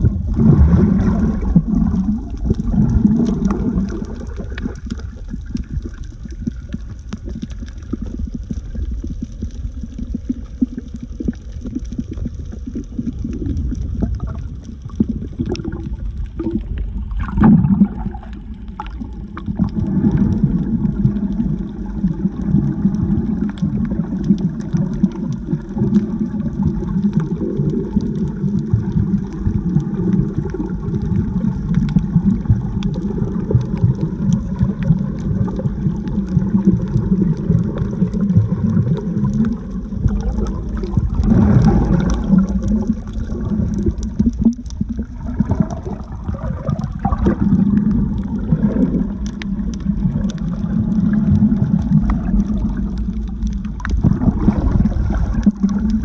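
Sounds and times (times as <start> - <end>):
small clicks and crackles: 0.0 - 56.0
underwater water sloshing: 0.0 - 56.0.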